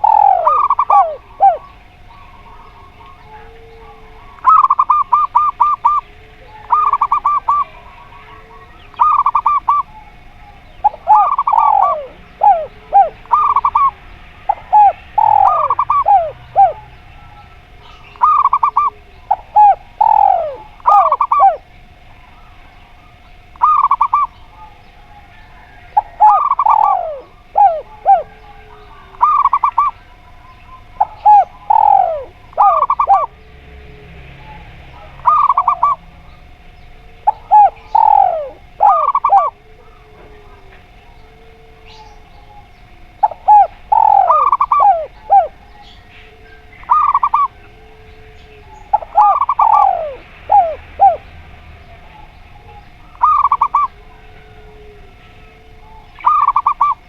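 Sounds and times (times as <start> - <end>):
doves cooing: 0.0 - 57.0
faint steady hum: 0.0 - 57.0.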